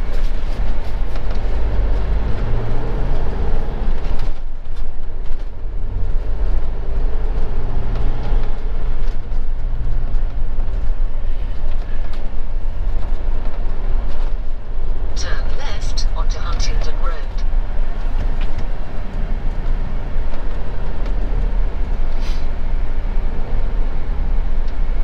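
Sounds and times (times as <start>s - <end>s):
engine and road noise rumble: 0.0s - 25.0s.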